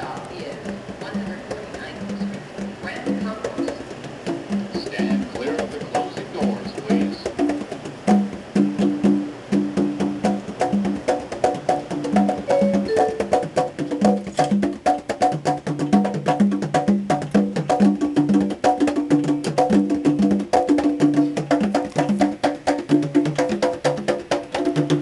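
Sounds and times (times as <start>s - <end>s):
pitched drums playing: 0.0s - 25.0s.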